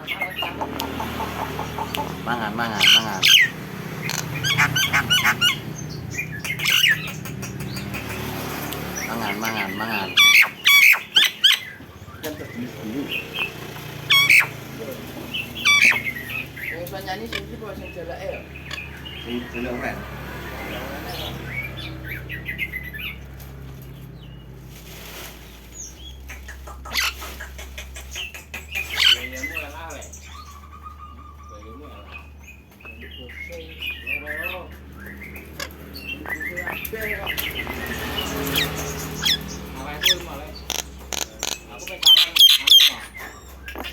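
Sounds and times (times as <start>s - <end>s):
myna whistled calls: 1.4s - 8.2s, 9.0s - 14.6s, 15.3s - 19.8s, 25.8s - 43.9s.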